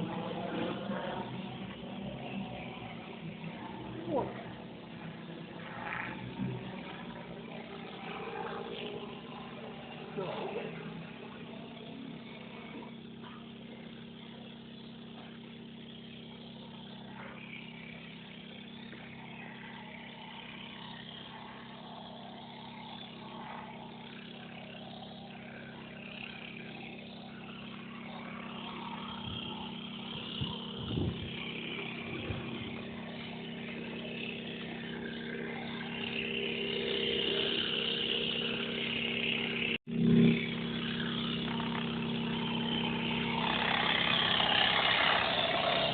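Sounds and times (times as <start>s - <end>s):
drone propellers humming: 0.0s - 45.9s.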